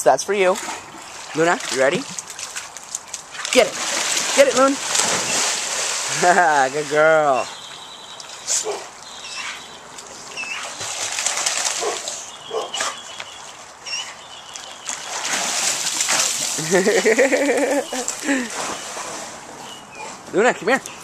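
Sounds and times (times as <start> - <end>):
dogs splashing in water: 0.5 - 20.2.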